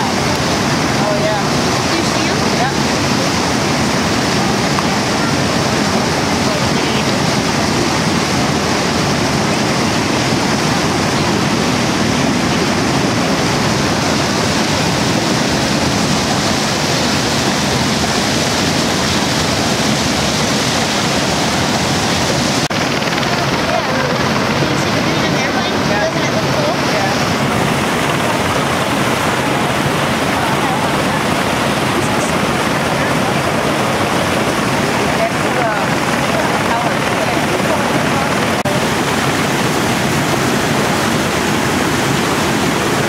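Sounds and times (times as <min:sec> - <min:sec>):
roar of rushing water: 0:00.0 - 0:43.0.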